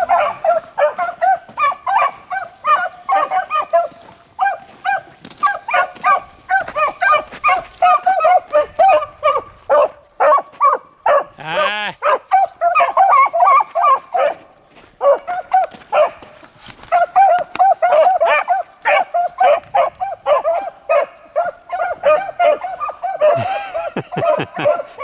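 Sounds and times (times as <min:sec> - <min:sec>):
beagles baying: 0:00.0 - 0:25.0.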